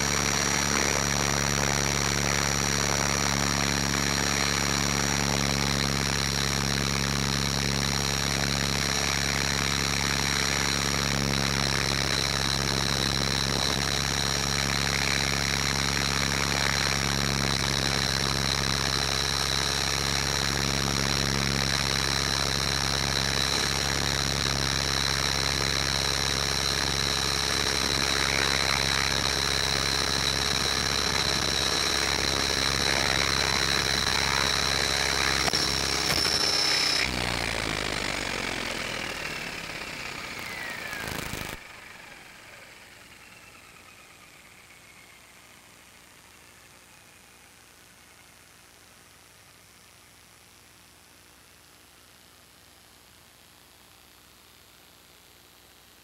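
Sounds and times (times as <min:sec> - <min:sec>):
motor whine: 0:00.0 - 0:47.4.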